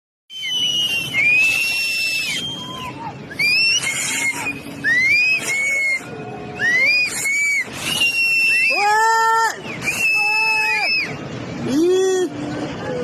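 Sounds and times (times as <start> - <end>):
people shrieking: 0.3 - 13.0.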